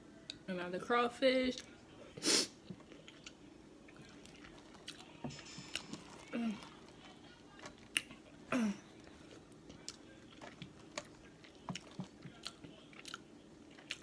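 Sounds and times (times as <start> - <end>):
crawfish eating and chewing: 1.5 - 14.0.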